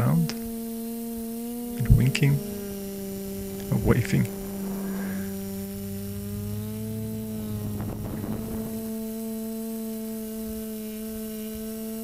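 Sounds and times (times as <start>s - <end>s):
quadcopter motors buzzing: 0.0s - 12.0s.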